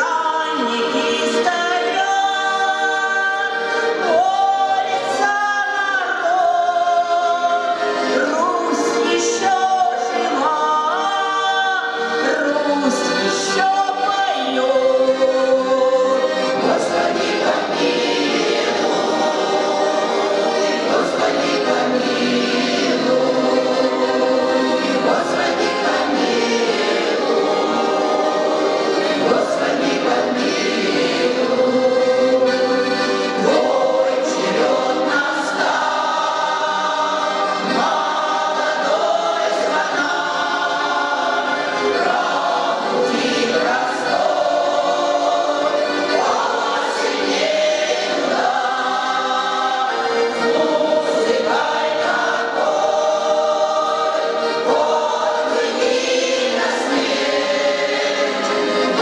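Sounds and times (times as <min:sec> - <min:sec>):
choir singing long chords: 0:00.0 - 0:59.0.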